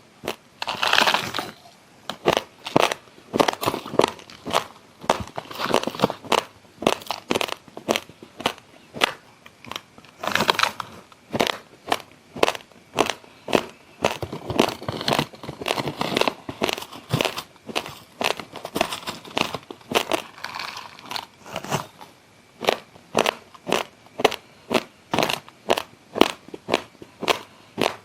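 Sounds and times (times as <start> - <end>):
person chewing raw rice: 0.3 - 28.0.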